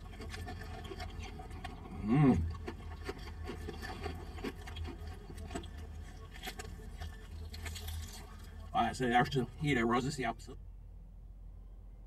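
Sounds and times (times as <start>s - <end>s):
low steady car cabin hum: 1.2s - 12.0s.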